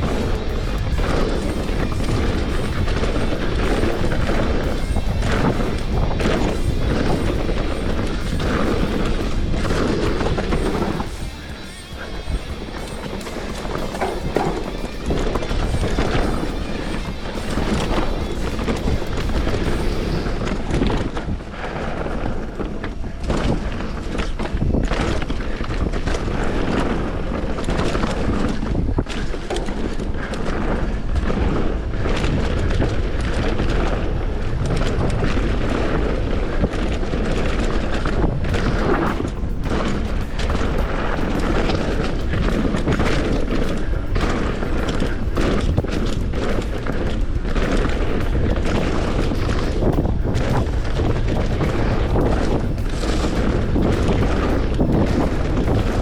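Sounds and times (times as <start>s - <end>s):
bike rattling over rocks: 0.0s - 56.0s
wind buffeting microphone: 0.0s - 56.0s.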